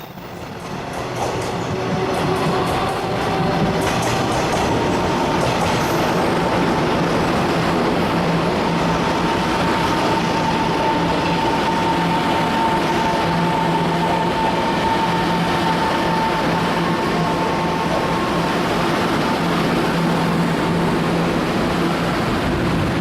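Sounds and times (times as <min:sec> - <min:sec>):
train rumbling rail noise: 0:00.0 - 0:23.0.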